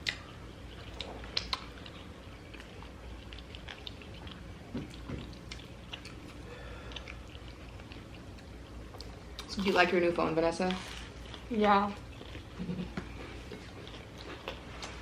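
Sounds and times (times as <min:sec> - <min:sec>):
people chewing pizza: 0:00.0 - 0:15.0.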